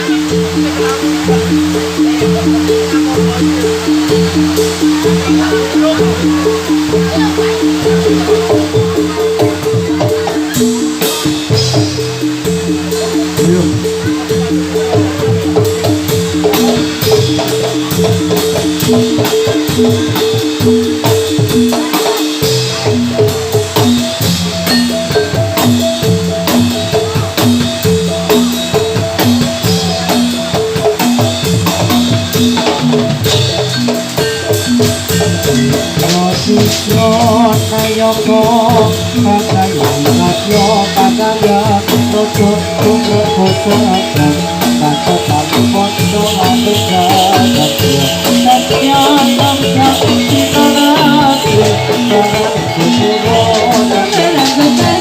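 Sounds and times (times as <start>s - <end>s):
drums: 0.0s - 55.0s
tuned metal percussion: 0.0s - 55.0s
wavering melody: 0.0s - 55.0s.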